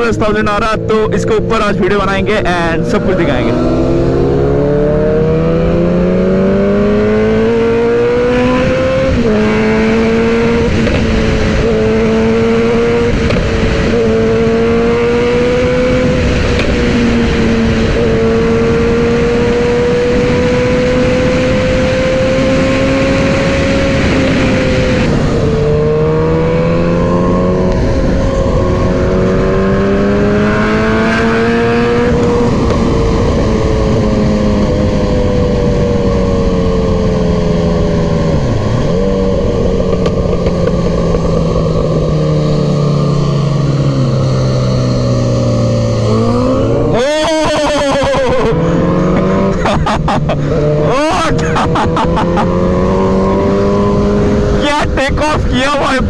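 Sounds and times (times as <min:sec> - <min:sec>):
passing sportbike engine: 0:00.0 - 0:56.0
wind noise: 0:00.0 - 0:56.0
motorcycle engine changing gear: 0:03.6 - 0:54.6.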